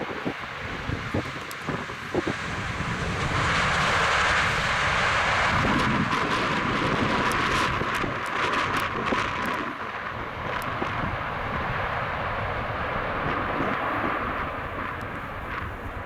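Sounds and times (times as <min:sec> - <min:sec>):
airliner engines rushing: 0:00.0 - 0:16.0.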